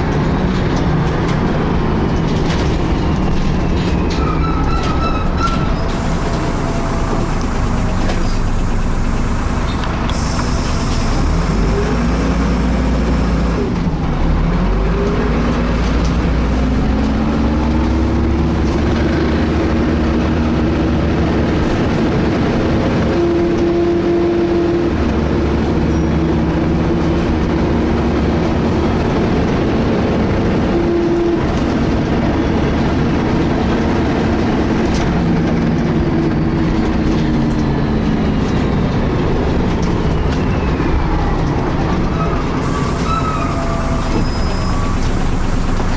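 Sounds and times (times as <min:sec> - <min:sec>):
bus engine and road rumble: 0:00.0 - 0:45.9.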